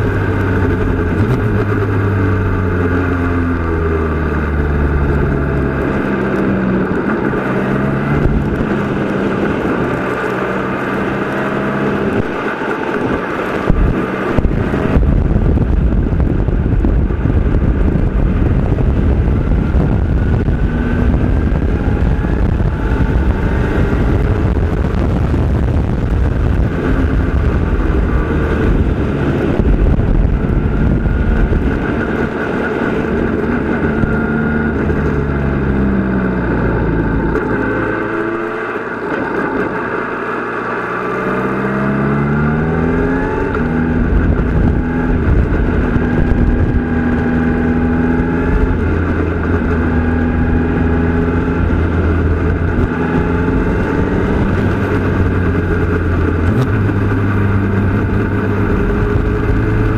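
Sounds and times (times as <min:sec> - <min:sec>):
race car engine at speed: 0:00.0 - 0:59.9
wind rumble on microphone: 0:00.0 - 0:59.9.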